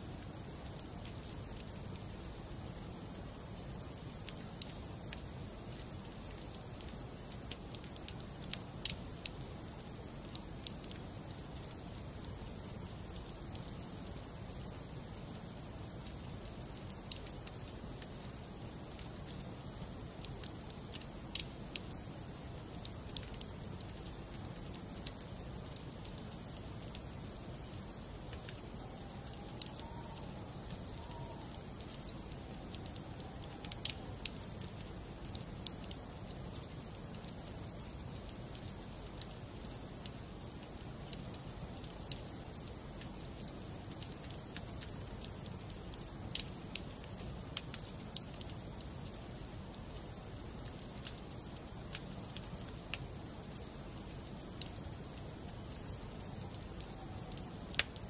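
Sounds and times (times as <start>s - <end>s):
burning logs popping and snapping: 0.2s - 58.0s.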